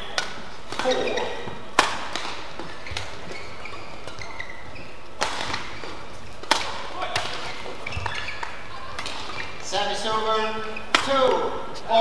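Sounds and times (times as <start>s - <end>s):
rackets hitting shuttlecock: 0.0s - 9.7s, 10.6s - 11.7s
shoes squeaking on court: 0.1s - 11.9s.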